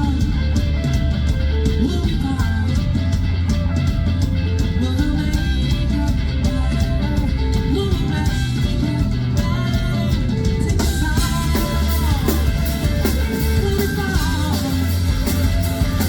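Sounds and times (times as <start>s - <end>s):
electric guitars: 0.0s - 16.0s
person singing: 0.0s - 16.0s
steady drum beat: 0.0s - 16.0s.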